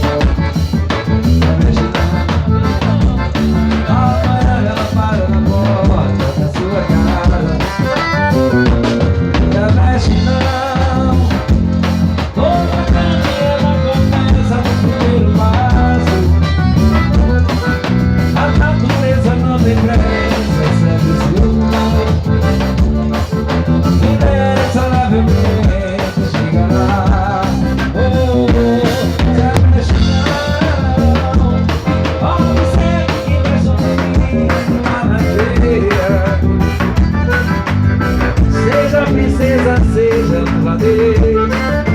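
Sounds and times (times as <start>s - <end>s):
loud music with drum kit: 0.0s - 41.9s.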